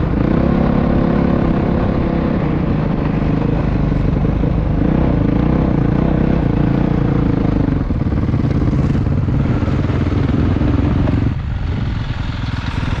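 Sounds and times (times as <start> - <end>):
dirt bike engine running loudly: 0.0 - 13.0.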